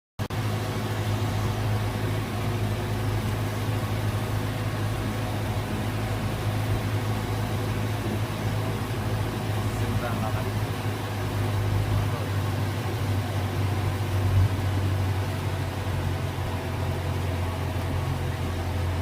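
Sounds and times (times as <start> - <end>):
light aircraft engine droning: 0.2 - 19.0.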